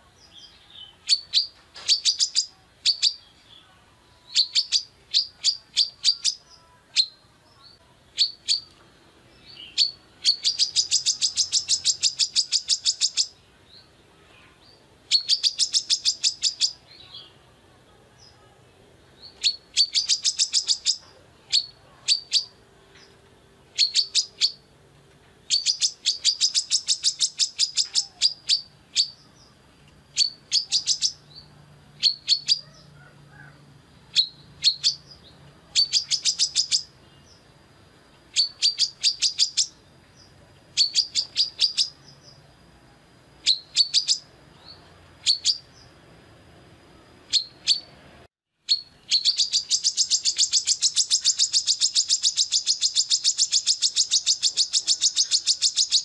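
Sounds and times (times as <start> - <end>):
sunbird chirping: 0.0 - 46.2, 46.8 - 56.0.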